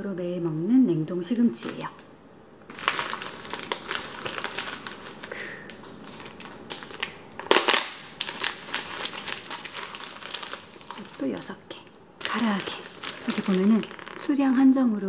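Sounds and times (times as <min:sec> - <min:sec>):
plastic packaging crinkling: 0:01.6 - 0:02.0, 0:02.7 - 0:14.5.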